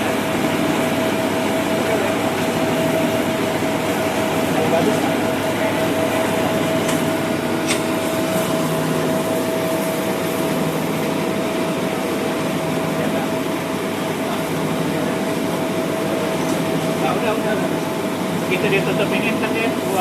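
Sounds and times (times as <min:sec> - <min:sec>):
milling machine running with whine: 0:00.0 - 0:20.0.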